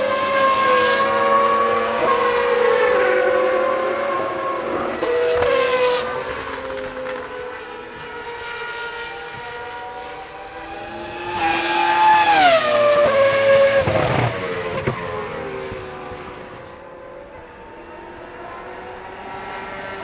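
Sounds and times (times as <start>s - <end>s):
race car passing at high revs: 0.0s - 20.0s.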